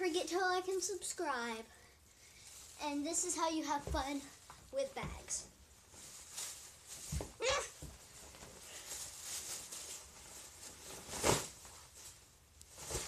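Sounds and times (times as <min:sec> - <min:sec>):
plastic bag rustling and crinkling: 0:02.2 - 0:13.0.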